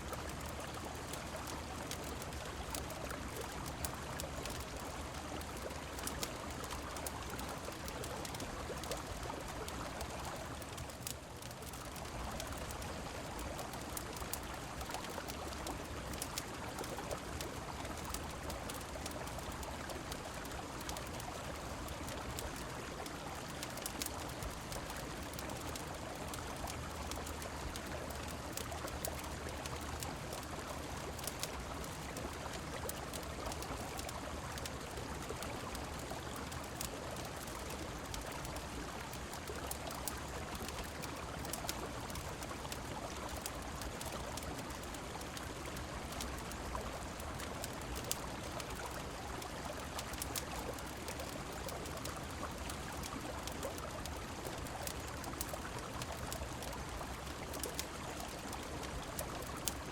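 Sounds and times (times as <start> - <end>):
rain falling: 0.0 - 59.9
river water flowing: 0.0 - 59.9
wood fire crackling: 0.1 - 59.9.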